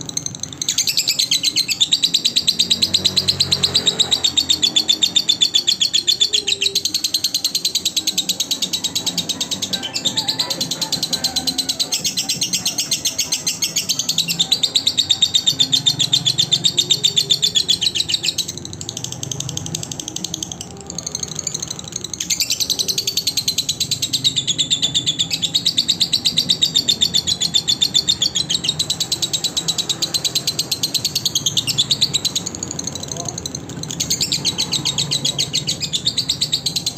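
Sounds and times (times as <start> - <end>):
lovebird chattering trill: 0.0 - 36.9.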